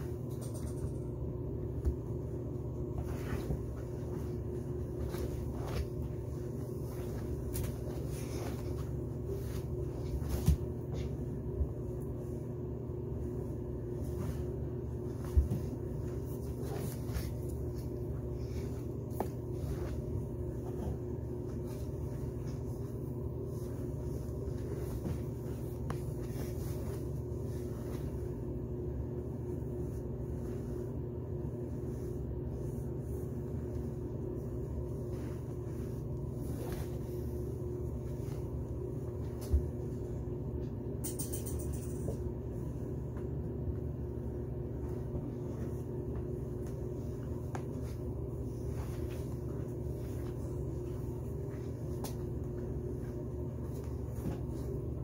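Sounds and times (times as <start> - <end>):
low mechanical hum: 0.0 - 55.0
cloths scuffing on tiled floor: 1.7 - 12.4, 13.3 - 40.3, 44.1 - 55.0.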